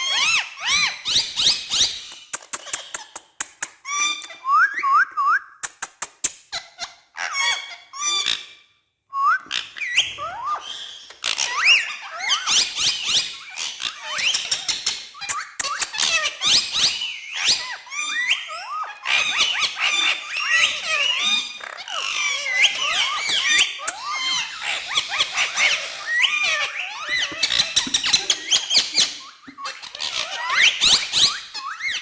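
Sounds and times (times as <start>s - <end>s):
parrots chattering and squawking: 0.0s - 4.5s, 5.7s - 8.6s, 9.4s - 32.0s.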